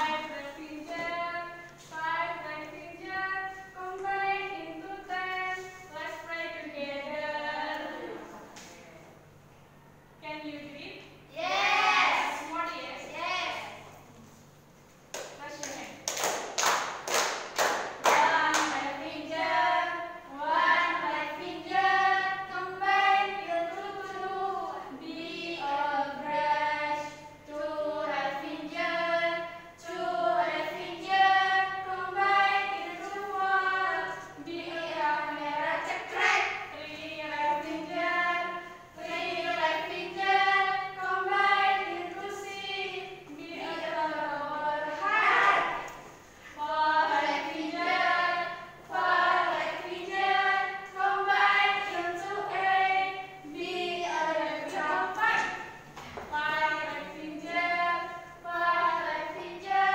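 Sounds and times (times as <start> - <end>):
young women singing together: 0.0 - 9.2, 16.2 - 59.9.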